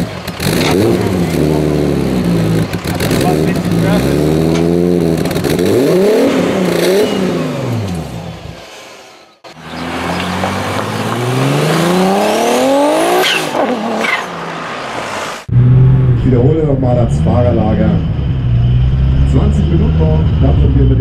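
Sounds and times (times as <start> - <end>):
car accelerating hard: 0.0 - 8.5, 9.5 - 21.0
car engine revving: 0.0 - 21.0.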